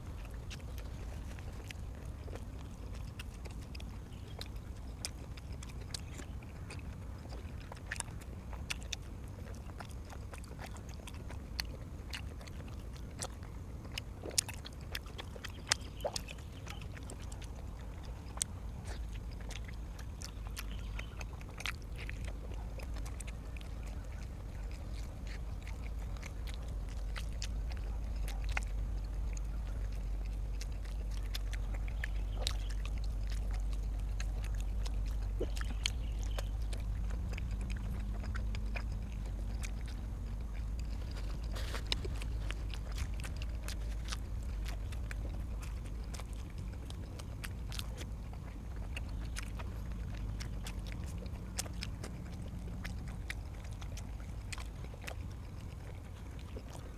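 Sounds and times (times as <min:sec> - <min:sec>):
low steady hum: 0:00.0 - 0:56.9
mouth clicks: 0:00.0 - 0:56.9
person chewing food: 0:00.0 - 0:56.9.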